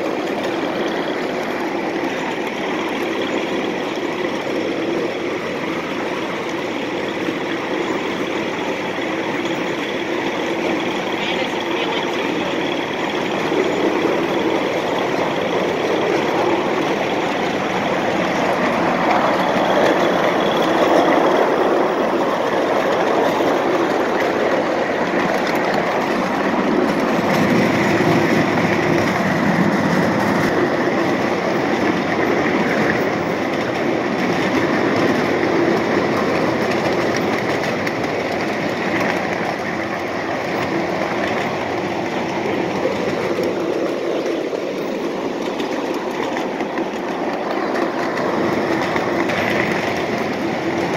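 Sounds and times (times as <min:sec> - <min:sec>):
miniature train running on rails: 0:00.0 - 0:50.9.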